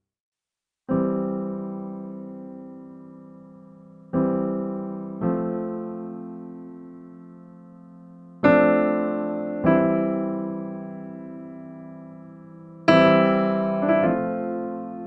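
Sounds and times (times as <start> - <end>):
soft piano chords: 0.9 - 15.0.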